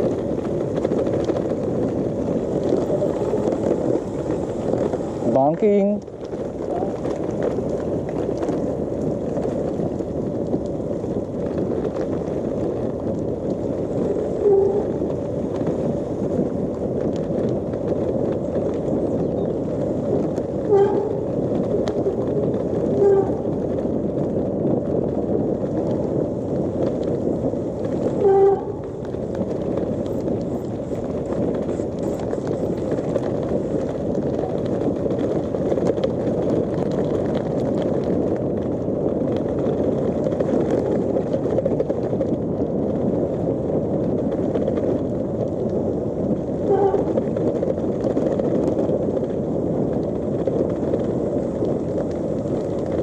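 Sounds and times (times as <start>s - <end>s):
bike tyres rolling on asphalt: 0.0s - 53.0s
wind noise on microphone: 0.0s - 53.0s.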